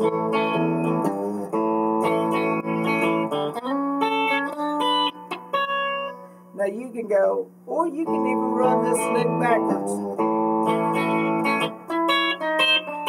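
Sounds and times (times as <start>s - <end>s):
electric guitar country lick: 0.0s - 6.5s, 7.8s - 13.0s.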